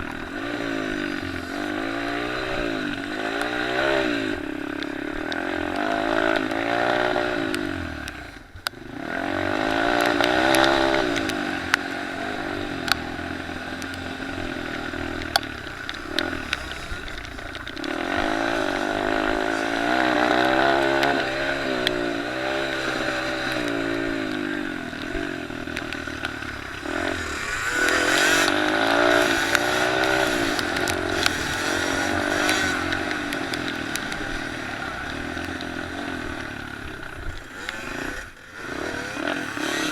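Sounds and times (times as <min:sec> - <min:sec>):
motorbike engines revving: 0:00.0 - 0:39.9
sharp ticks: 0:00.0 - 0:39.9.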